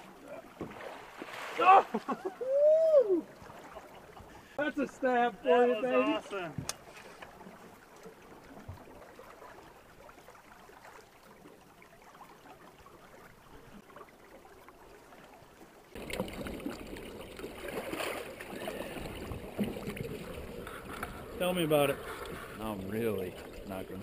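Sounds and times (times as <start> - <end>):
water splashing against boat: 0.0 - 24.0.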